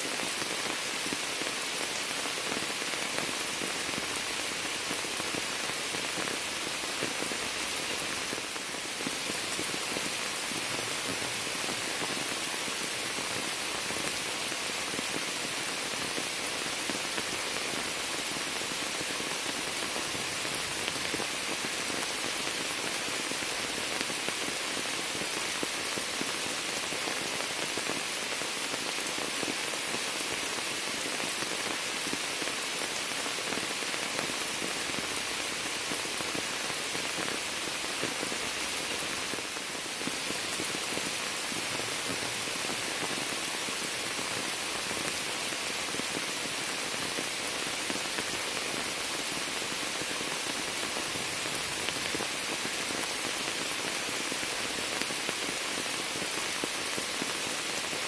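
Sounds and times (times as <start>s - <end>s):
rain falling on water and leaves: 0.0s - 58.0s.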